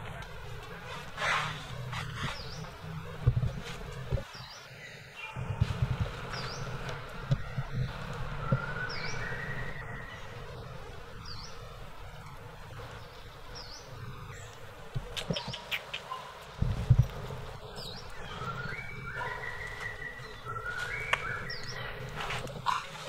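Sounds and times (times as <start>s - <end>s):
low thumps and rustles: 0.0s - 4.6s, 5.4s - 15.7s, 16.4s - 23.0s.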